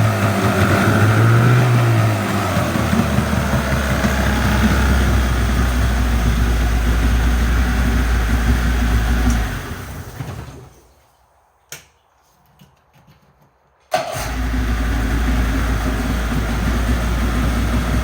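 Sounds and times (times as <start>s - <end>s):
outboard motor running: 0.0s - 10.8s, 14.2s - 18.0s.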